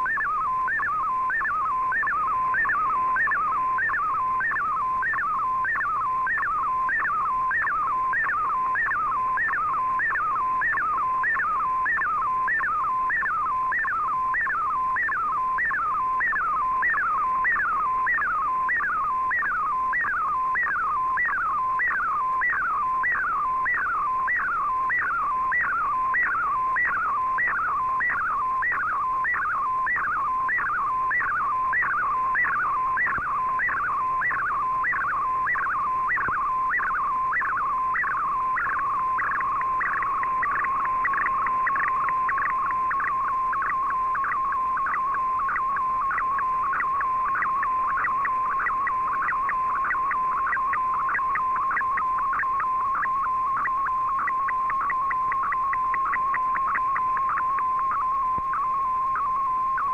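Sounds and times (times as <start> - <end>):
steady whistling tone: 0.0 - 59.9.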